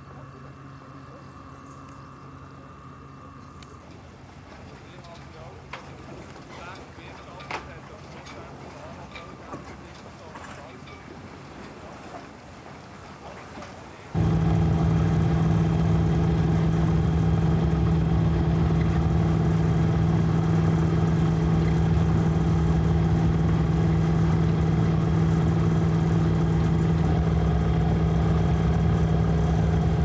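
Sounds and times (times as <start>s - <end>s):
outboard motor droning: 0.0s - 30.0s.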